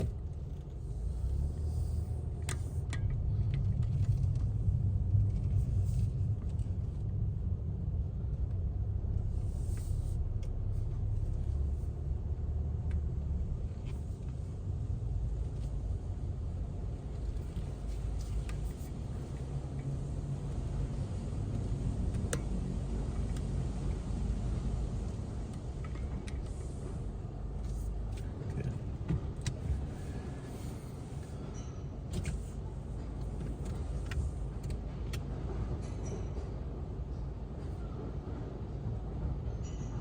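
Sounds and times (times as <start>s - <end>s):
car engine rumble: 0.0s - 39.8s.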